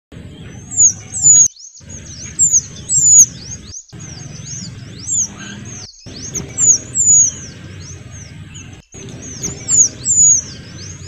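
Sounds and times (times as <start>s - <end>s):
birds whistling: 0.2s - 11.0s.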